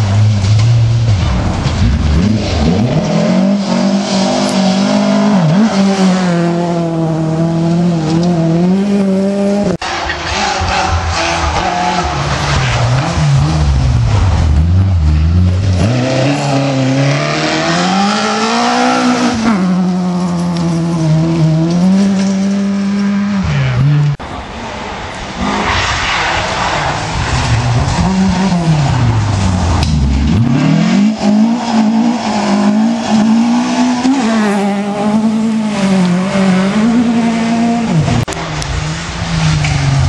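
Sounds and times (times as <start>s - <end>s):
rally car engine revving: 0.0s - 24.3s, 25.3s - 40.0s.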